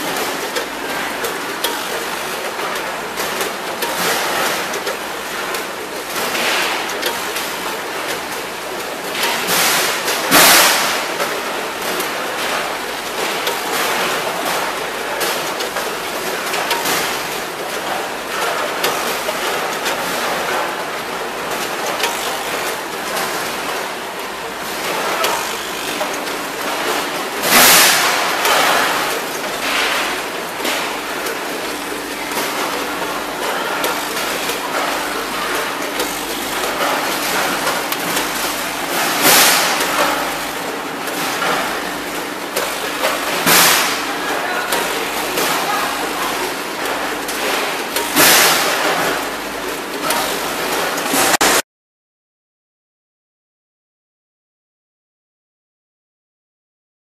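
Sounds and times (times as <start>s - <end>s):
weighing machinery running: 0.0s - 51.6s.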